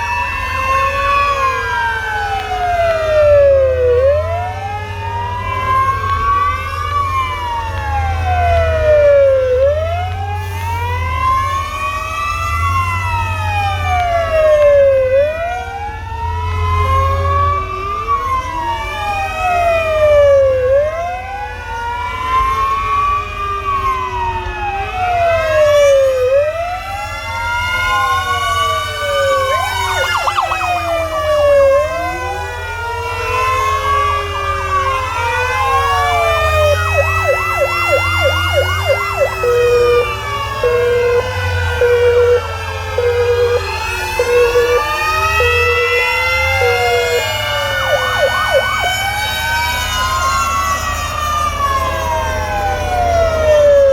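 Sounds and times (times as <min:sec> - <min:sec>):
emergency vehicle sirens wailing: 0:00.0 - 0:53.9
low rumble of vehicles: 0:00.0 - 0:53.9.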